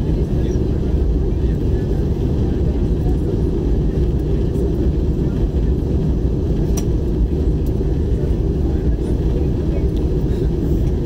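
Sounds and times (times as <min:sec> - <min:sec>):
air rushing along fuselage: 0:00.0 - 0:11.0
airplane cabin engine roar: 0:00.0 - 0:11.0.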